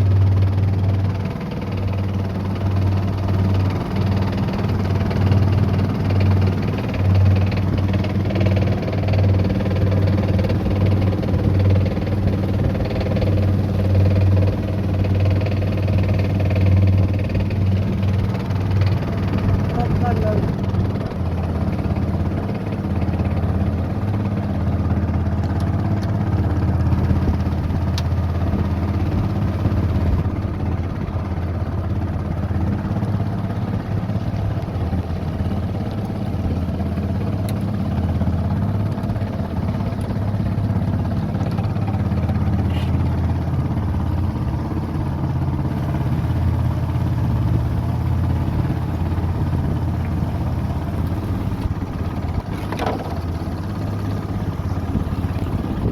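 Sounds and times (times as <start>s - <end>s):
boat engine humming: 0.0s - 55.9s.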